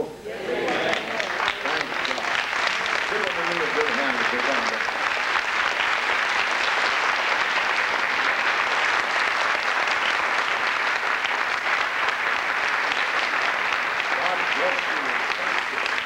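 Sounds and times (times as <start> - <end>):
audience applauding: 0.5 - 16.0.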